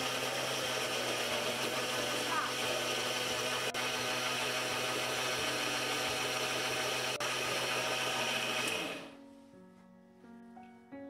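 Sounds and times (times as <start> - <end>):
mixer grinder motor grinding: 0.0 - 9.1.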